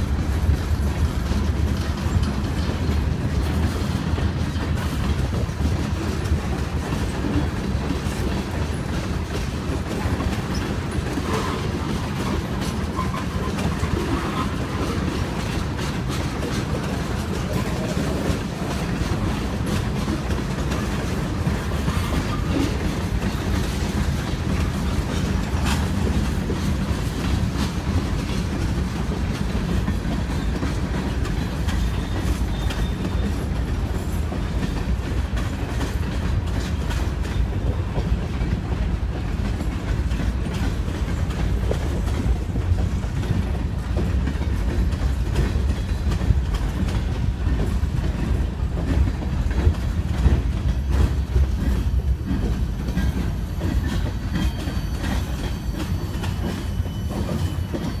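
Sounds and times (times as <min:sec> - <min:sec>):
freight train rumbling past: 0:00.0 - 0:58.0
wheels clacking on rail joints: 0:00.0 - 0:58.0.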